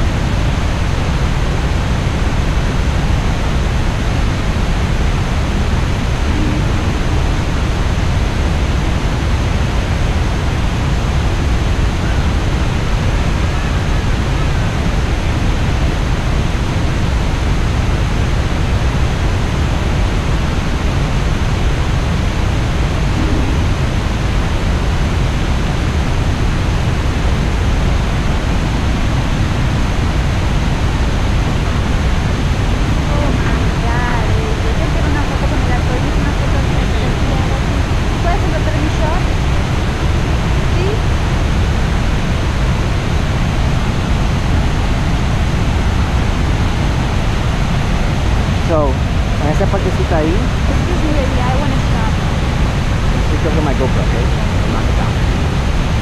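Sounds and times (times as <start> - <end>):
rush of falling water: 0.0 - 56.0.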